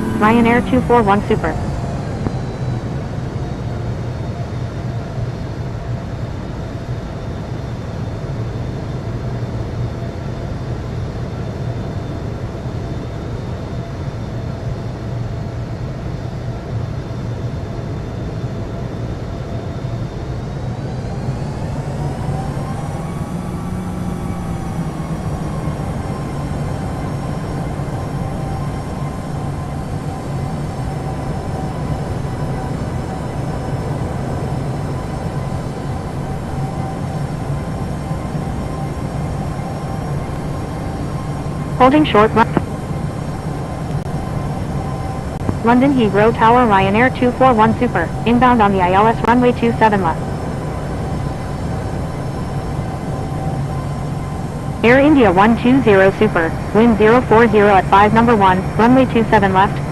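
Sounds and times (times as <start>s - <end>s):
jet engines whining and rumbling: 0.0s - 59.9s.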